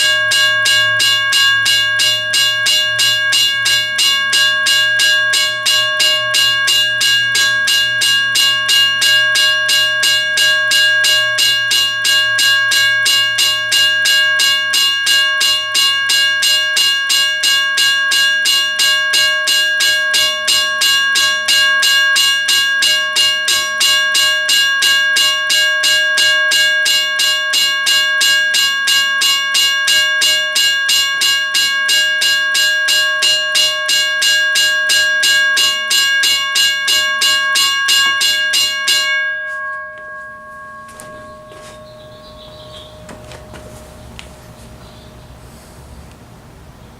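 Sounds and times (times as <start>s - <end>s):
railroad crossing bell ringing: 0.0s - 45.4s.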